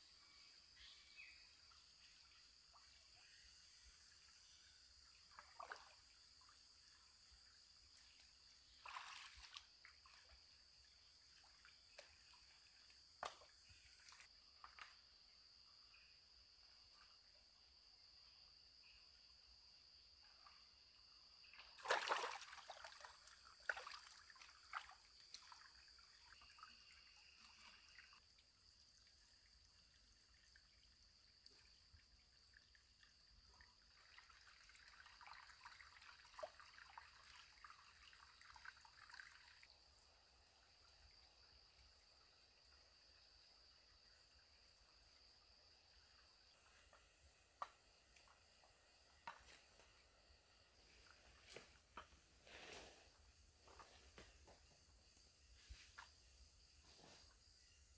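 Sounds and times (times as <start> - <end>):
stream water trickling: 0.1 - 57.9.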